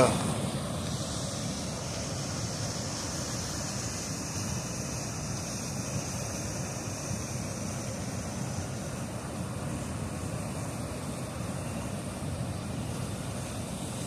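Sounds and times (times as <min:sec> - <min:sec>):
turbulent river water rushing: 0:00.0 - 0:14.0.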